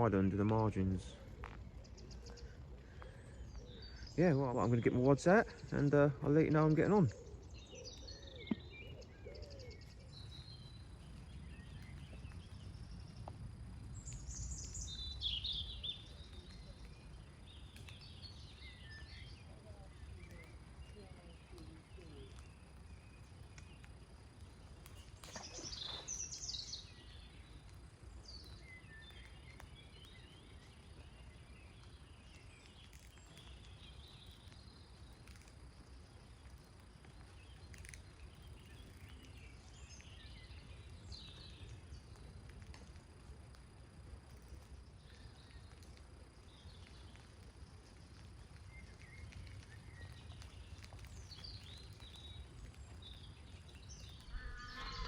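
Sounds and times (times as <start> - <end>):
birds singing and chirping: 0.0 - 42.6, 44.4 - 55.0.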